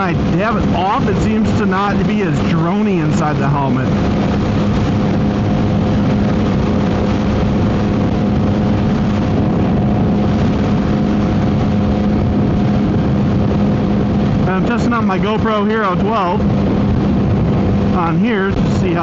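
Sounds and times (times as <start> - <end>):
wind noise on microphone: 0.0 - 19.0
motorcycle engine running: 3.6 - 19.0.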